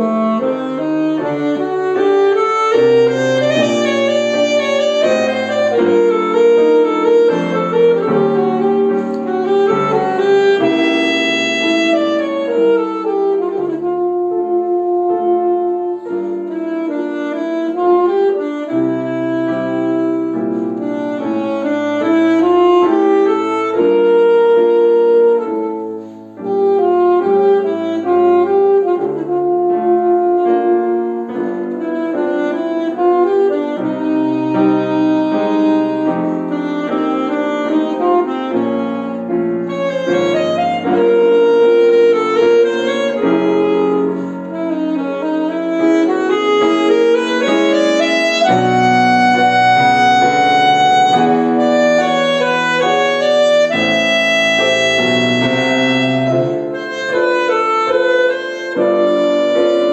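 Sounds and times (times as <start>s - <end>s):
alto saxophone melody: 0.0s - 59.9s
grand piano: 0.0s - 59.9s.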